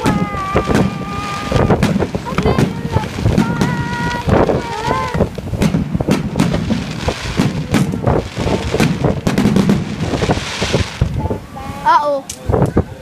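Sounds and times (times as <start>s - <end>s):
fireworks bursting with crackles: 0.0s - 12.9s.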